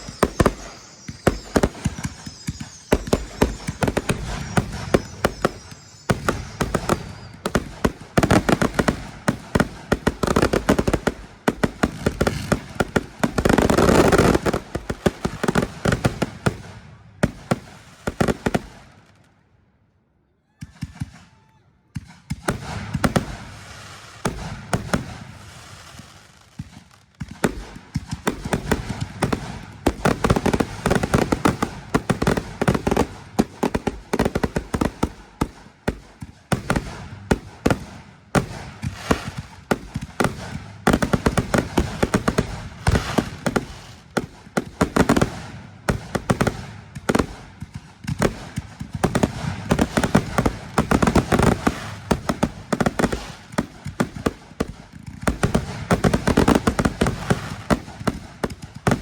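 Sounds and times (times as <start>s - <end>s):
fireworks crackling and banging: 0.0s - 19.4s, 20.6s - 59.0s.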